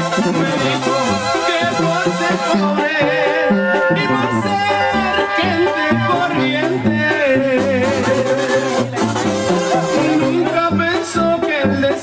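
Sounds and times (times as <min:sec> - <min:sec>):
latin dance music with singing: 0:00.0 - 0:12.0.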